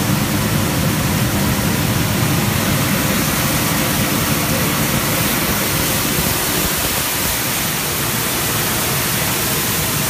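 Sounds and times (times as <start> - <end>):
high-pressure water spray: 0.0 - 10.0.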